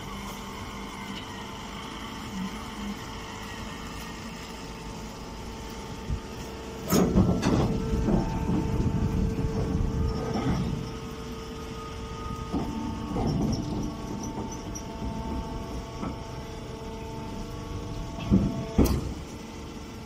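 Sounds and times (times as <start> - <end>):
baler motor and pump humming: 0.0 - 20.0.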